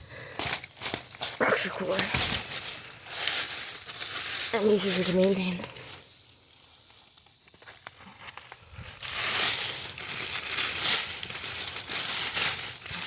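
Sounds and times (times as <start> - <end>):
dry leaves rustling and crackling: 0.1 - 13.0.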